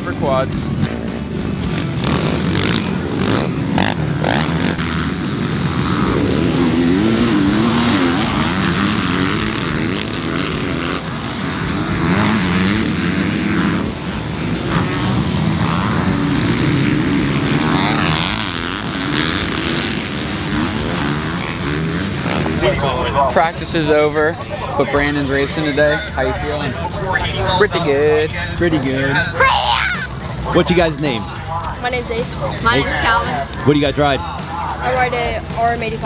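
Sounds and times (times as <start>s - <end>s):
quad and dirt bike engines revving: 0.0s - 36.0s.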